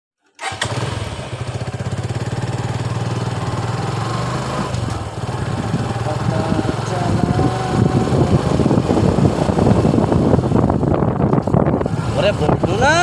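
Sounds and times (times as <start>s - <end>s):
motorcycle engine running: 0.4s - 13.0s.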